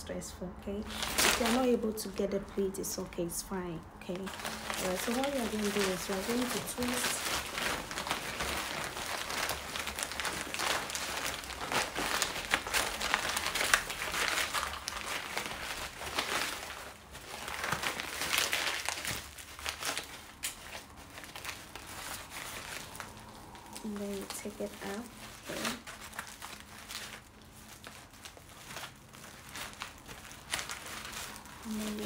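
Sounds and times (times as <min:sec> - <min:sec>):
stiff fabric rustling and crinkling: 0:00.6 - 0:32.0.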